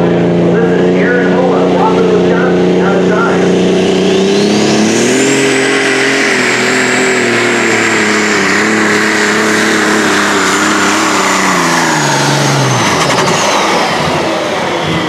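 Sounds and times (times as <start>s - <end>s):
high whine: 0.0s - 15.0s
tractor engine running under load: 0.0s - 15.0s.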